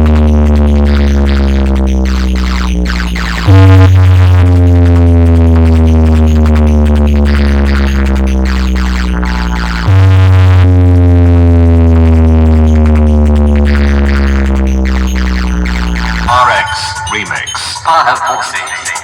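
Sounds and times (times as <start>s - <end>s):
deep bass notes: 0.0s - 18.2s
falling synth tones: 0.8s - 12.9s, 13.5s - 17.8s.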